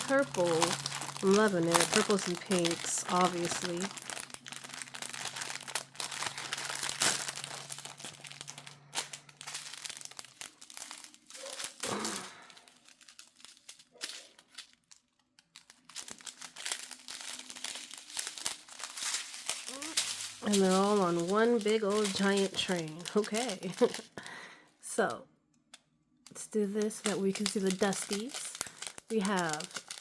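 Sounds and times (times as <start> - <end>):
plastic packets crinkling: 0.0 - 24.6, 26.2 - 30.0.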